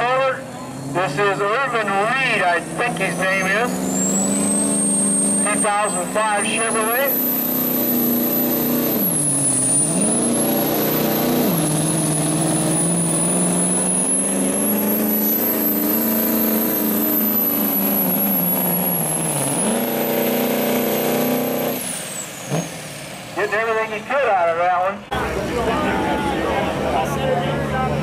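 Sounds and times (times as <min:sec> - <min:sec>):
diesel engine running flat out: 0:00.0 - 0:28.0.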